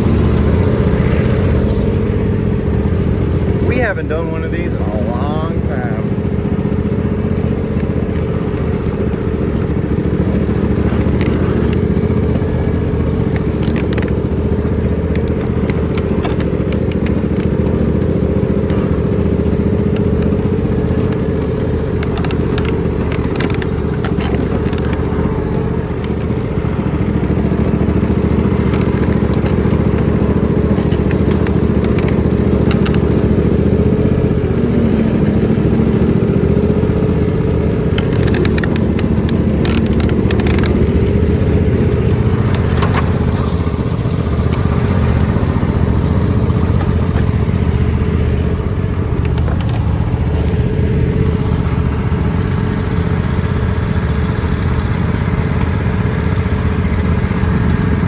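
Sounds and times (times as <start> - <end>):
riding lawn mower engine: 0.0 - 58.0
short sharp cracks and clatters: 6.6 - 34.5, 35.1 - 58.0.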